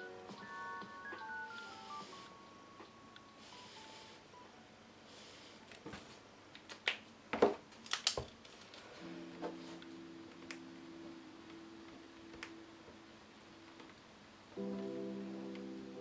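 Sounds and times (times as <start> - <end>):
soft lo-fi music: 0.0 - 6.2, 8.7 - 16.0.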